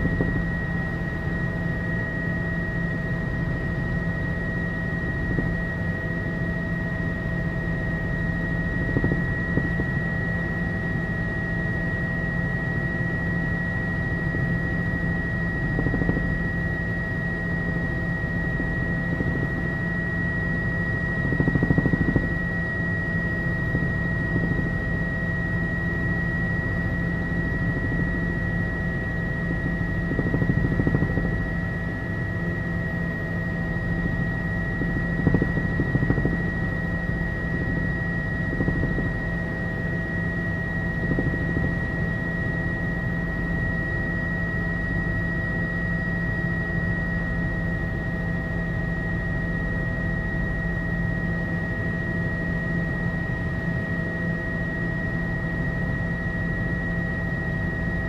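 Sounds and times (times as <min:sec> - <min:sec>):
helicopter drone: 0:00.0 - 0:58.0
high turbine whine: 0:00.0 - 0:58.0.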